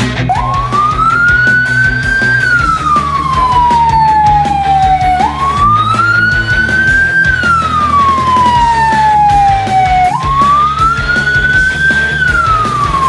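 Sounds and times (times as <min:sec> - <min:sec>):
music with steady beat: 0:00.0 - 0:13.0
police siren wailing: 0:00.3 - 0:13.0.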